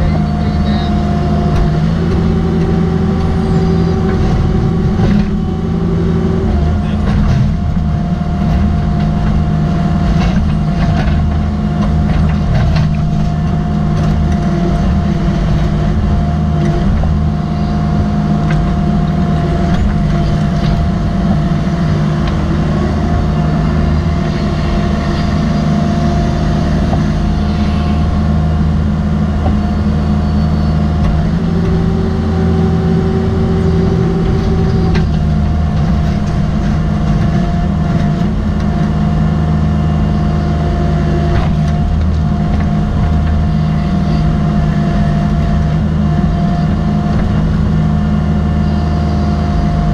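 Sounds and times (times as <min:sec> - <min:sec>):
diesel excavator engine running: 0:00.0 - 0:49.9
hydraulic whine: 0:00.0 - 0:49.9.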